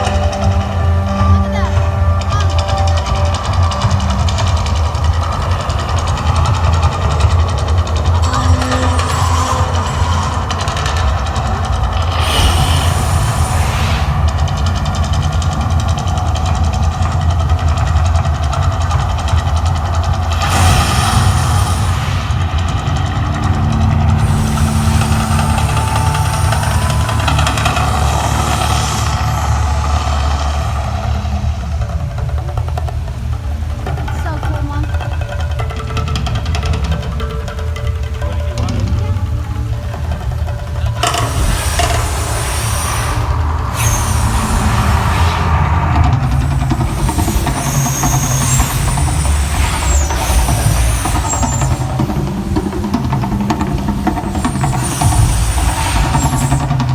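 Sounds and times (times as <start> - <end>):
hiss: 0.0 - 34.1, 40.7 - 56.9
deep steady rumble: 0.0 - 56.9.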